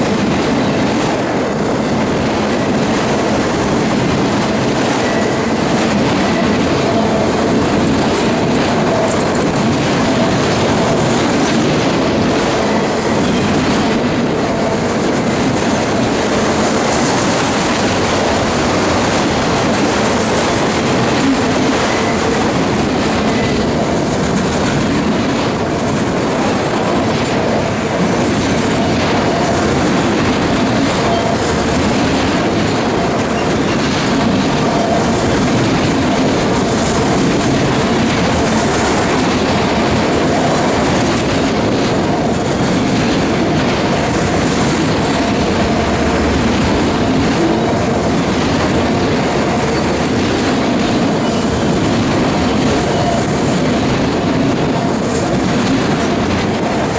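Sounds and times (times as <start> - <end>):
freight train rumbling past: 0.0 - 56.9
wheels clattering over rail joints: 0.0 - 56.9.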